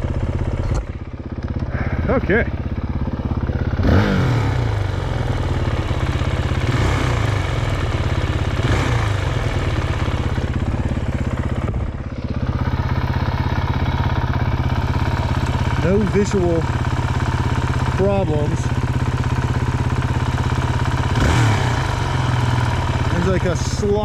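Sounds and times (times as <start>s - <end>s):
dirt bike engine revving: 1.6s - 24.0s.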